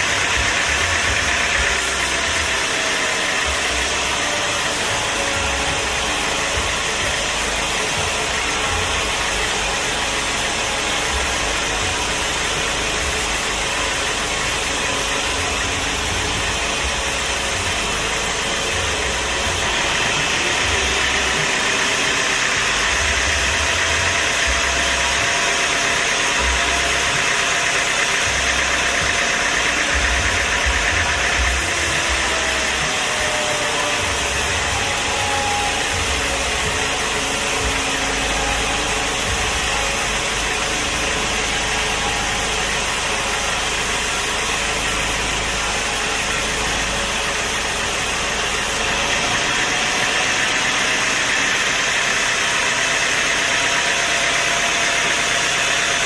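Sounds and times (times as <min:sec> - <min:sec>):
machine engine droning: 0:00.0 - 0:56.0.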